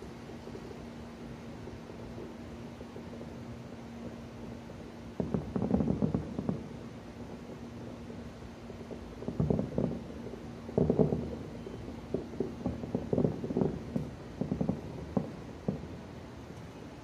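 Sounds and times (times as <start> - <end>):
distant fireworks booming: 0.0 - 17.0.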